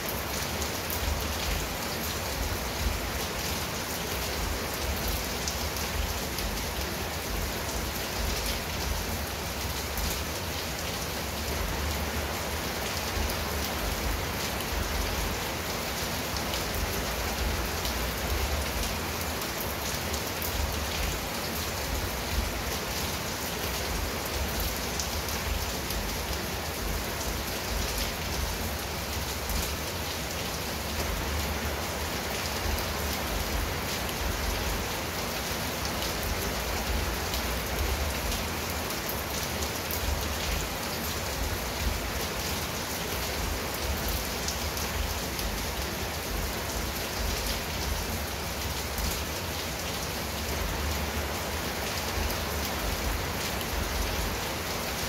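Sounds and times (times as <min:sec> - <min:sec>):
rain on tile roof: 0:00.0 - 0:55.0.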